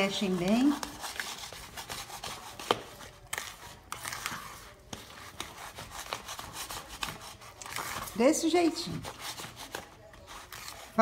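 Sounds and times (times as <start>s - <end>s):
spoon scraping batter bowl: 0.0s - 11.0s.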